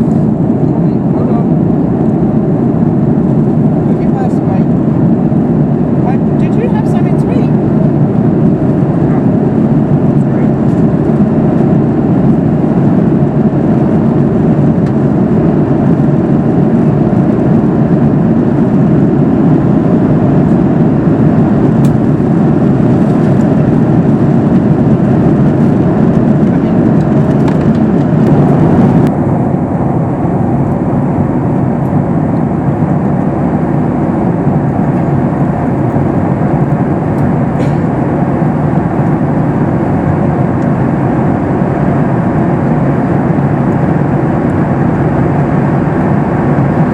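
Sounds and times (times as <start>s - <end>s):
airplane cabin noise: 0.0s - 46.9s.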